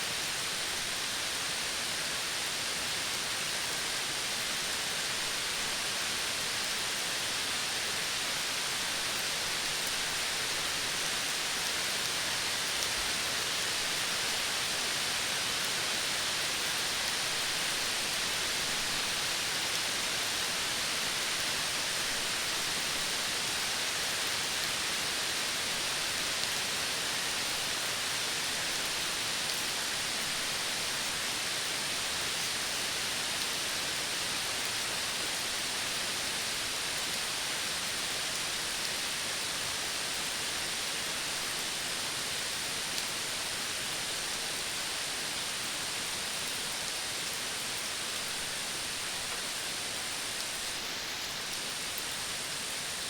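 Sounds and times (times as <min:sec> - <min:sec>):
steady outdoor hiss: 0:00.0 - 0:53.0.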